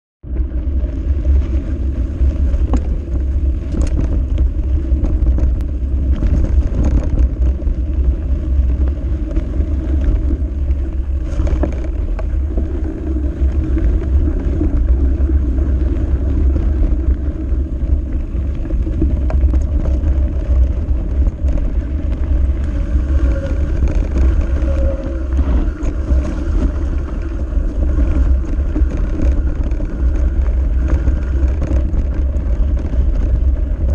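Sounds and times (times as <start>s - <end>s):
bike tyre noise on dirt: 0.2s - 33.9s
wind buffeting on camera: 0.2s - 33.9s
rattles and knocks over rough ground: 0.3s - 33.9s.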